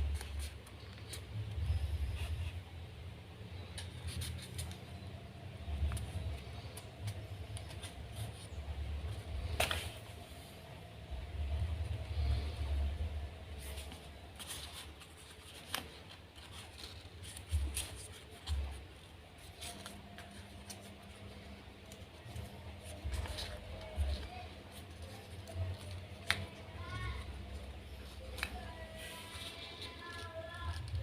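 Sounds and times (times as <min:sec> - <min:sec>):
paper crinkling and rustling: 0:00.0 - 0:02.6, 0:03.6 - 0:10.5, 0:11.5 - 0:31.0
faint steady hum: 0:00.0 - 0:31.0.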